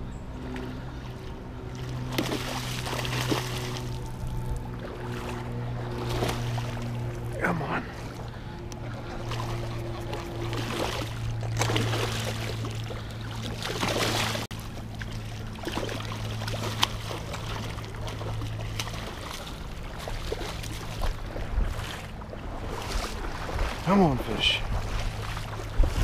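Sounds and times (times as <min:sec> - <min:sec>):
steady low hum: 0:00.0 - 0:26.0
fish thrashing and splashing in water: 0:01.6 - 0:08.3, 0:09.0 - 0:23.8.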